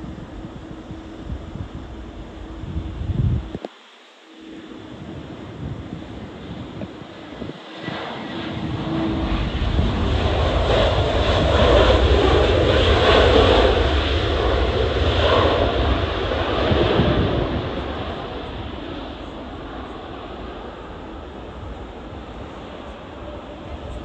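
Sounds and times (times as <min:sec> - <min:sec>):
jet airliner passing: 0:00.0 - 0:03.6, 0:04.2 - 0:24.0
wind on microphone: 0:00.0 - 0:03.7, 0:04.4 - 0:24.0.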